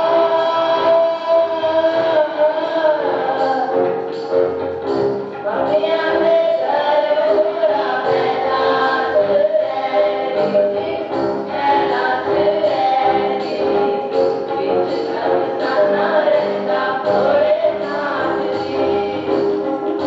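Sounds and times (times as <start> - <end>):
group singing in chorus: 0.0 - 3.9, 5.4 - 20.0
keyboard accompaniment: 0.0 - 20.0.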